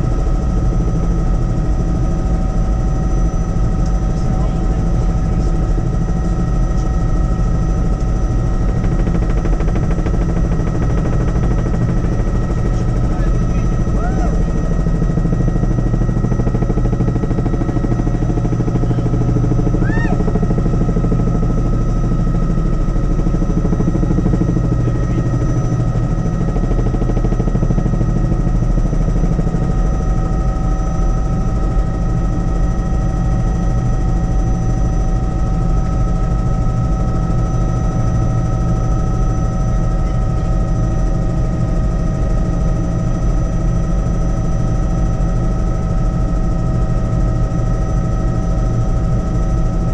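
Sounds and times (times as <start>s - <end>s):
constant high whine: 0.0s - 49.9s
helicopter rotor beating: 0.0s - 49.9s.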